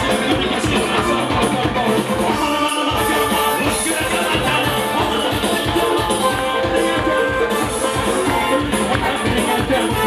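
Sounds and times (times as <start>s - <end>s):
live band music: 0.0s - 10.0s
man singing into a microphone: 0.0s - 10.0s.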